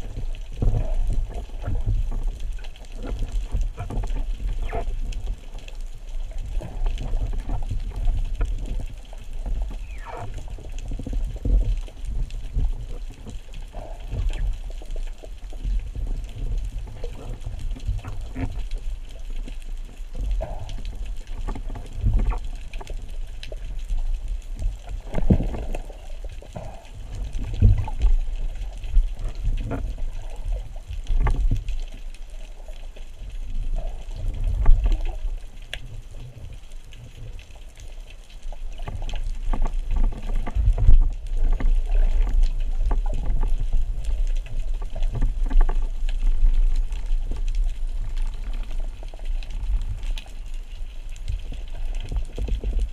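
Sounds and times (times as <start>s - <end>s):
muffled underwater rumble: 0.0s - 52.9s.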